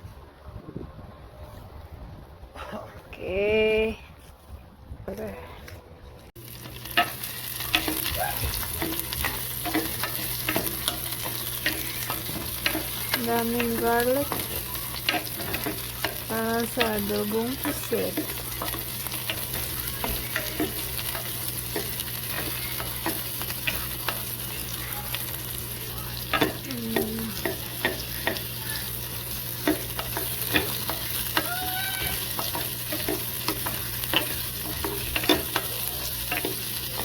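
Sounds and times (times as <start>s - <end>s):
garlic sizzling in oil: 6.4s - 37.0s.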